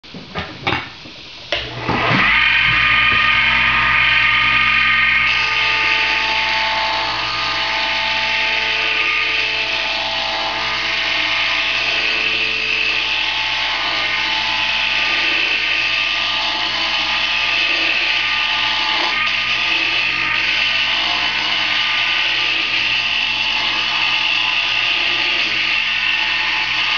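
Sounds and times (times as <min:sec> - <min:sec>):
wood lathe motor whine: 0:01.5 - 0:26.9.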